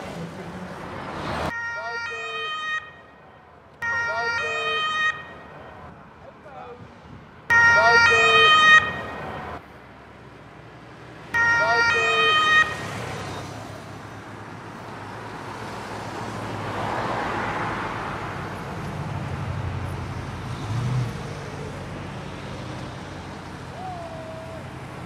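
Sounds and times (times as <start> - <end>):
cars driving past: 0.0 - 1.7, 5.0 - 25.0.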